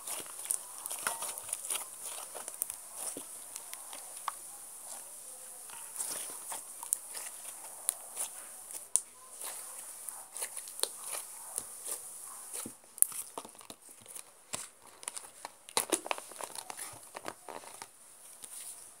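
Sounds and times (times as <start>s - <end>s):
slime crackling and popping: 0.0s - 5.0s, 5.6s - 18.6s.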